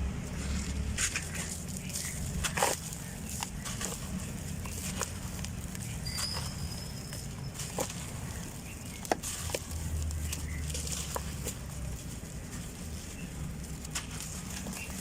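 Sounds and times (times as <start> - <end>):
low steady rumble: 0.0 - 15.0
cement lumps crumbling and cracking: 0.3 - 15.0.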